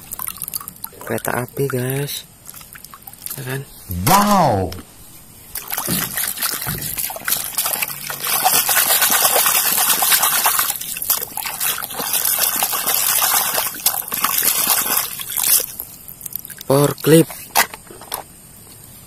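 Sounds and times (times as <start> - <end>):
water splashing and sloshing: 0.0 - 3.9, 4.8 - 17.8.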